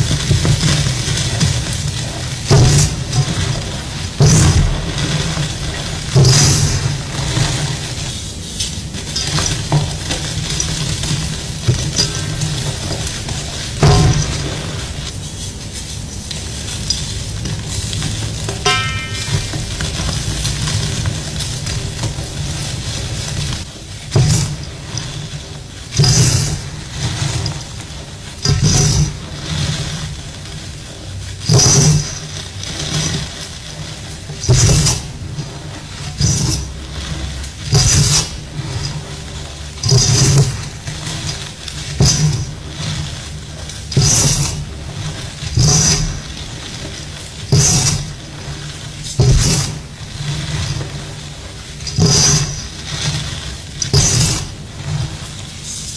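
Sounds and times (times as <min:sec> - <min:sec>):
powder clumps crunching by hand: 0:00.0 - 0:55.9.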